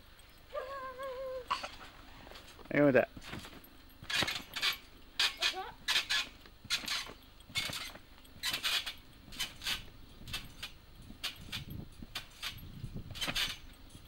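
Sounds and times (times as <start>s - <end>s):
trampoline springs creaking: 0.0s - 14.0s.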